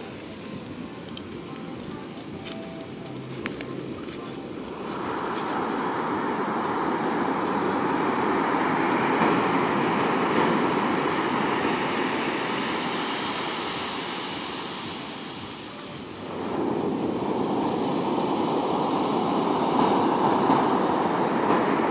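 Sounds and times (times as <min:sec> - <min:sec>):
surf washing up a pebble beach: 0:03.3 - 0:21.9.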